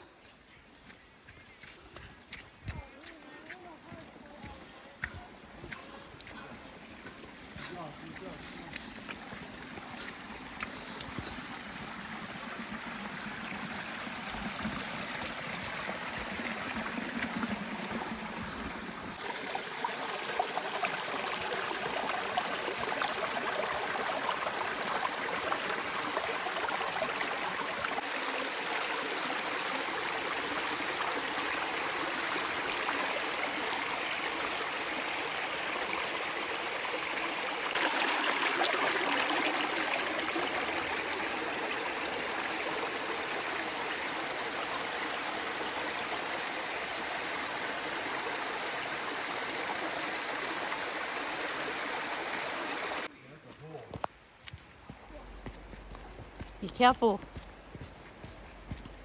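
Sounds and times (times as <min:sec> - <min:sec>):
river water rushing: 0:03.1 - 0:53.1, 0:54.2 - 0:59.0.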